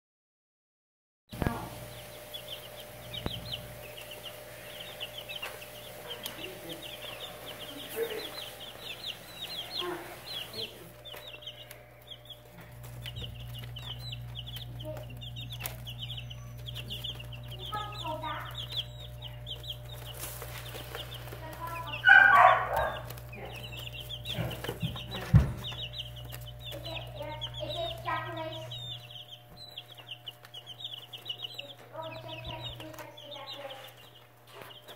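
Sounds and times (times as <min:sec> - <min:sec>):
chicks peeping: 0:01.3 - 0:34.9
harsh chick call: 0:01.4 - 0:34.9.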